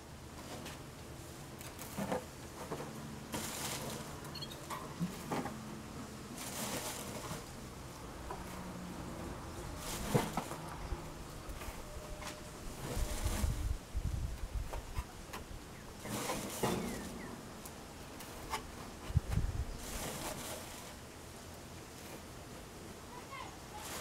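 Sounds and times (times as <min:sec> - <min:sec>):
wood shavings rustling and pattering: 0:00.4 - 0:24.0.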